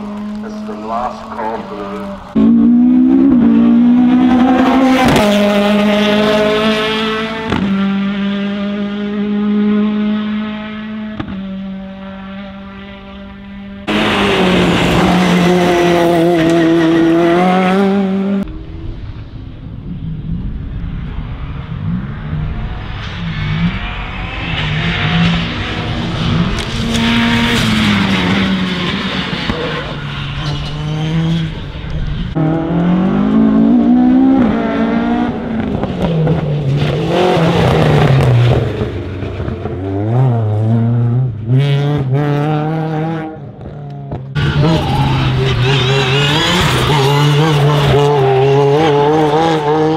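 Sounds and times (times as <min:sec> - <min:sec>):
race car engine at high revs: 0:00.0 - 0:18.6, 0:21.1 - 0:49.9
distant race car engine: 0:00.0 - 0:49.9.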